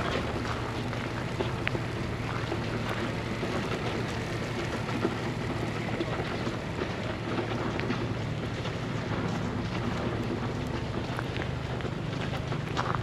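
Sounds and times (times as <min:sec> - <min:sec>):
distant traffic: 0:00.0 - 0:13.0
faint ticks and crackles: 0:00.0 - 0:13.0
wind rumble: 0:00.0 - 0:13.0.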